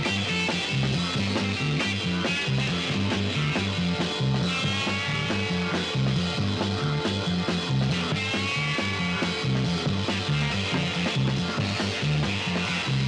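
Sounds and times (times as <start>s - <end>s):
bass riff: 0.0s - 13.0s
drum beat: 0.0s - 13.0s
psychedelic rock music: 0.0s - 13.0s.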